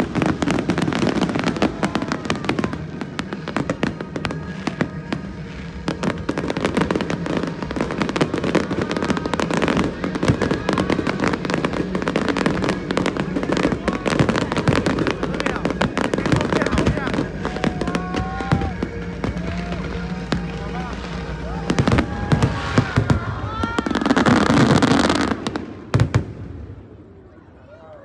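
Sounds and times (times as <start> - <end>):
music playing: 0.0 - 26.1
fireworks bursting and crackling: 0.0 - 27.3.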